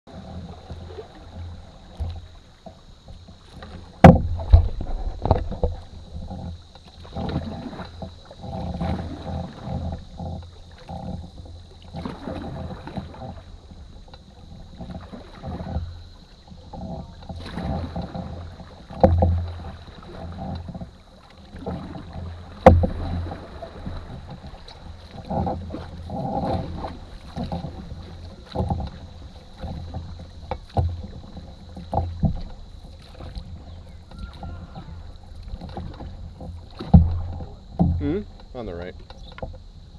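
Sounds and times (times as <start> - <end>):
paddle knocking against canoe: 0.1 - 39.9
paddles splashing in water: 0.1 - 39.9.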